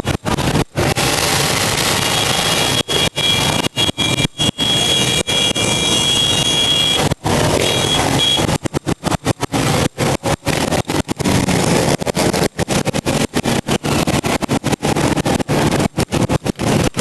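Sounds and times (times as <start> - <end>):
racing motorcycle engines: 0.0 - 16.9.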